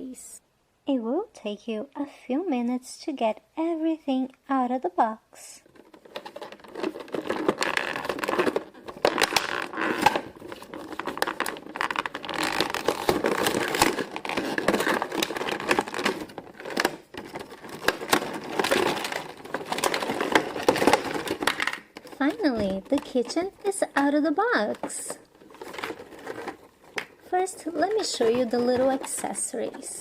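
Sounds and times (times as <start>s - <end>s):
packaging rustling and crinkling: 5.6s - 30.0s.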